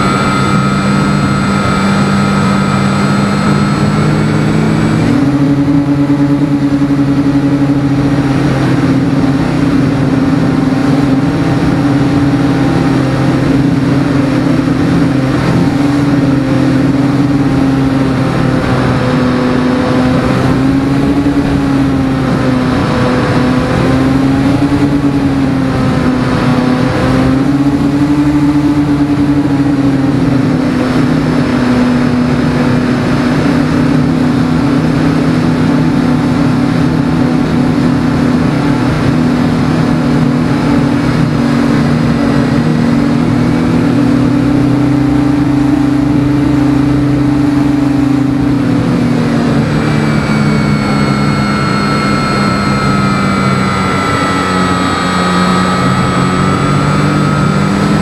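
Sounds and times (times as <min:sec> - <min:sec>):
electric motor and propeller humming: 0:00.0 - 0:58.0
higher whining tones: 0:00.0 - 0:58.0.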